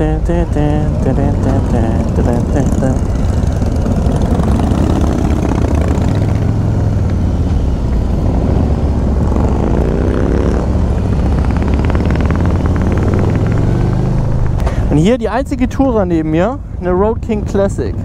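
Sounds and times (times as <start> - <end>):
motorcycle engine accelerating: 0.0 - 18.0
motorcycle engines running: 0.0 - 18.0.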